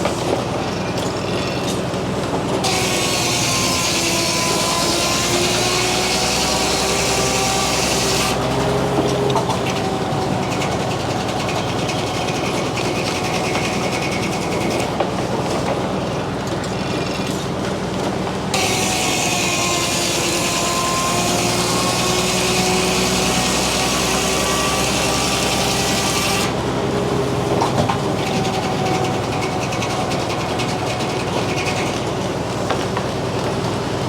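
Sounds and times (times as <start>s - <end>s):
sawmill motor and blade humming: 0.0s - 34.0s
circular saw blade cutting log: 2.6s - 32.9s.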